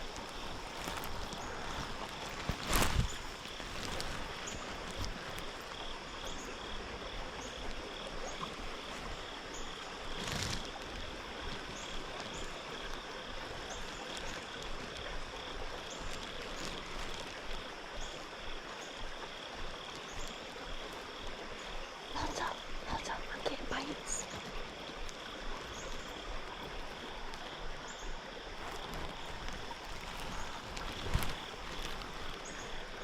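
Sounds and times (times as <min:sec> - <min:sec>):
frogs trilling and peeping: 0:00.0 - 0:33.0
light rain hiss: 0:00.0 - 0:33.0.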